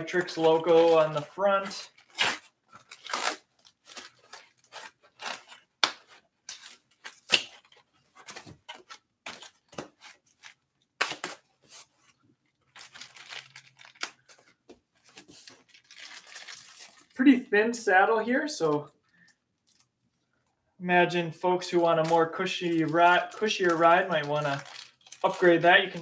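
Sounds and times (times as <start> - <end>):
packaging wrap tearing and rustling: 0.0 - 17.2, 21.7 - 26.0.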